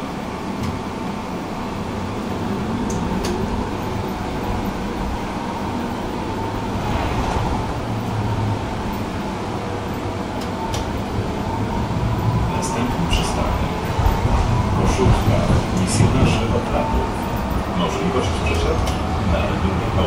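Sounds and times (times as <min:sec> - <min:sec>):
tram wheels rumbling on track: 0:00.0 - 0:20.0.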